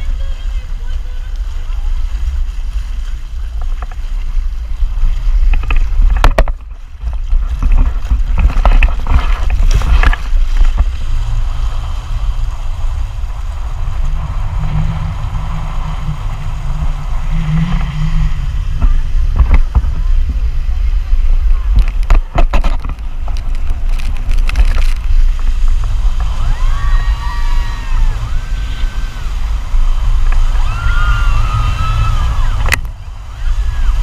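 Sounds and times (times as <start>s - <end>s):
low steady hum: 0.0s - 34.0s
water rushing and splashing: 0.0s - 34.0s
wind buffeting microphone: 0.0s - 34.0s.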